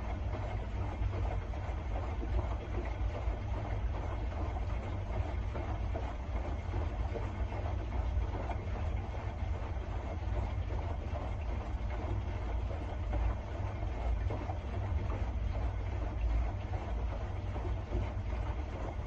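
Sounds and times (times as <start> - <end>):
machine rumble with hiss: 0.0 - 19.0.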